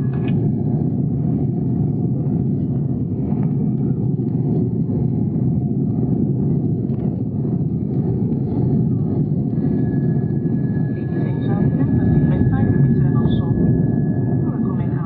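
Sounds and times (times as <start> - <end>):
jet engine rumble inside cabin: 0.0 - 15.0.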